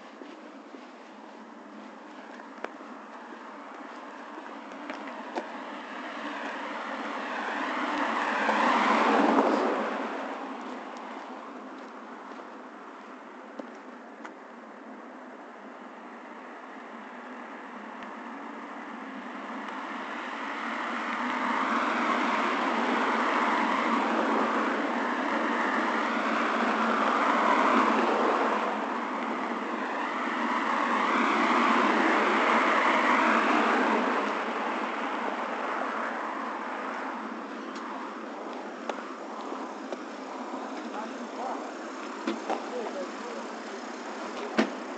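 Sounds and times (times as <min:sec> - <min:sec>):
cars passing: 0:00.0 - 0:44.9.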